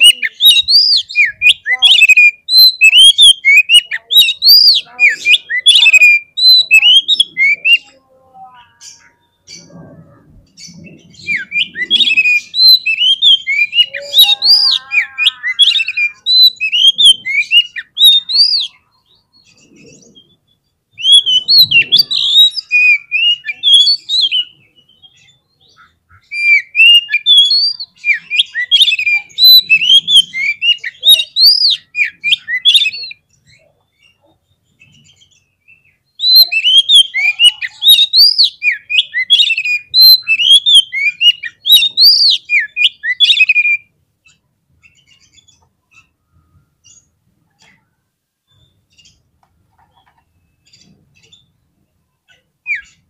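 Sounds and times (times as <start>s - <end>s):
magpie-robin singing whistled phrases: 0.0s - 8.0s, 10.6s - 46.2s, 52.6s - 53.0s.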